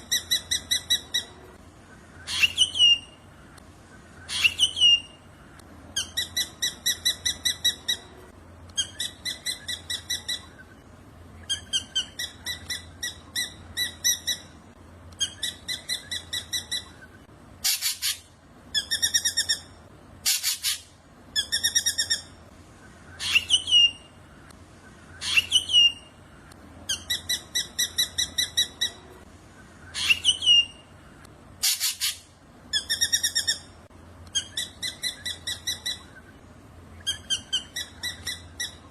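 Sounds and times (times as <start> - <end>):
harsh rasping bird calls: 0.0 - 14.6, 15.2 - 38.9.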